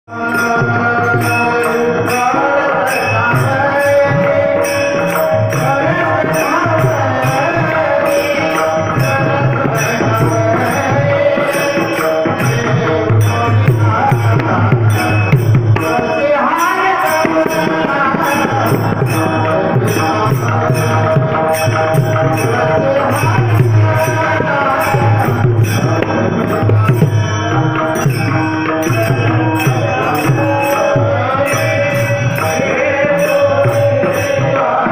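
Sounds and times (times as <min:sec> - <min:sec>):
devotional song melody: 0:00.1 - 0:34.9
sharp high percussion strokes: 0:00.1 - 0:34.9
tabla rhythm: 0:00.1 - 0:34.9.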